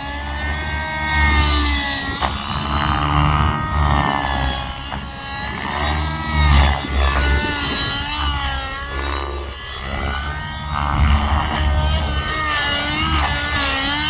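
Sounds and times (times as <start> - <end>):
model helicopter engine running: 0.0 - 14.0
low rumble: 2.2 - 13.7.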